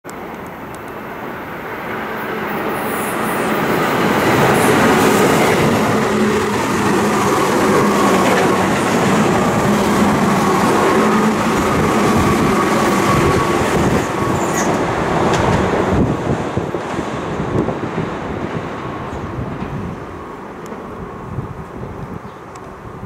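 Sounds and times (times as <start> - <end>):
electric train hum: 0.1 - 23.0
train wheels rumbling on rail: 0.1 - 23.0.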